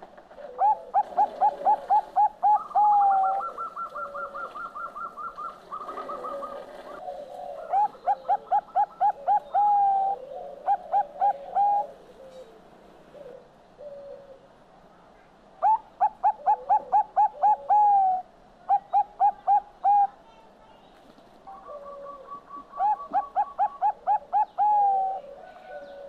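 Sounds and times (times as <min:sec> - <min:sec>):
dove cooing song: 0:00.3 - 0:14.6, 0:15.6 - 0:20.2, 0:21.4 - 0:26.0.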